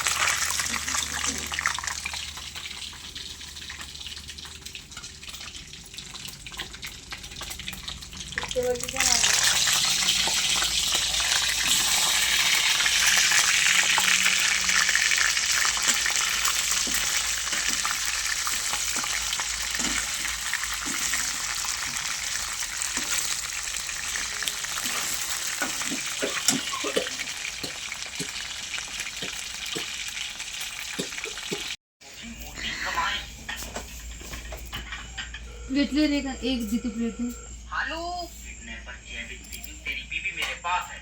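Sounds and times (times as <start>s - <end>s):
food sizzling in a pan: 0.0s - 33.2s.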